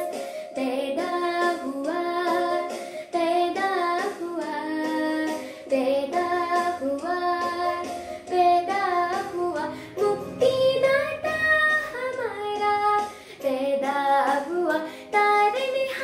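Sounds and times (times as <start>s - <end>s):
girl singing solo: 0.0s - 16.0s.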